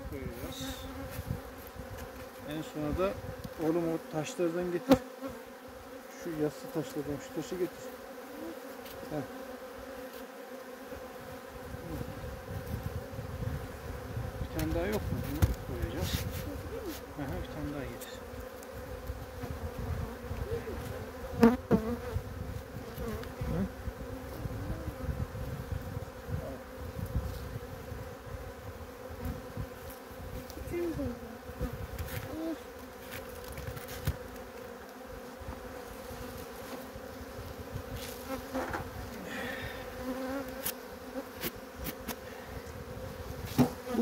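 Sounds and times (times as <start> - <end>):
bee flying past: 0.0 - 44.0
bees buzzing: 0.0 - 44.0.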